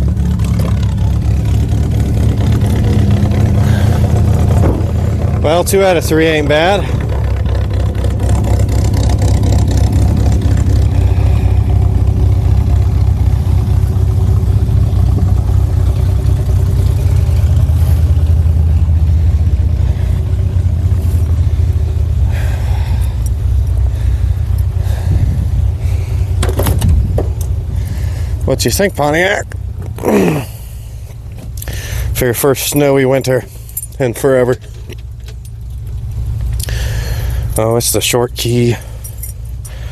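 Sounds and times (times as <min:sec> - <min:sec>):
pickup truck engine idling: 0:00.0 - 0:39.9.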